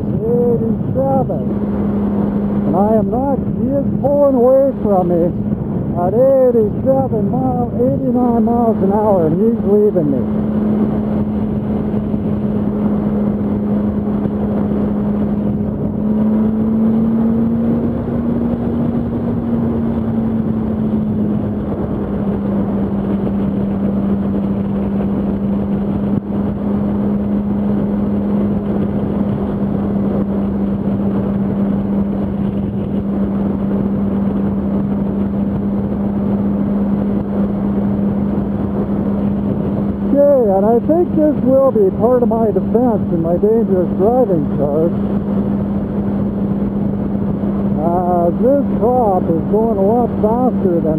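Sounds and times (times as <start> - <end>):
heavy wind and road rush: 0.0 - 50.9
motorcycle engine droning: 0.0 - 50.9.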